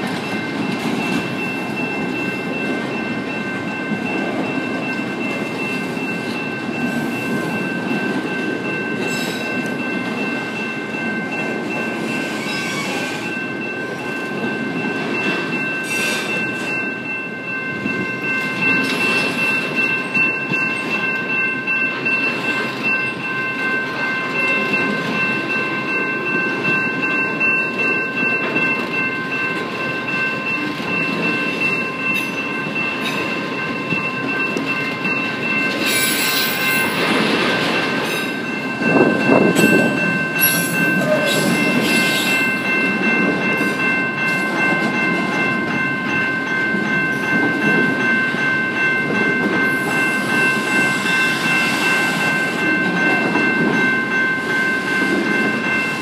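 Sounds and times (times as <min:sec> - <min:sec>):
steady high ringing tones: 0:00.0 - 0:56.0
train wheels rumbling on rails: 0:00.0 - 0:56.0.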